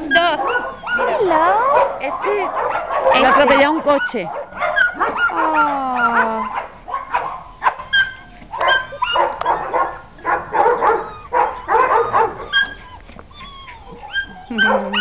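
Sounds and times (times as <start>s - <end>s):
puppies yapping and yelping: 0.0s - 15.0s.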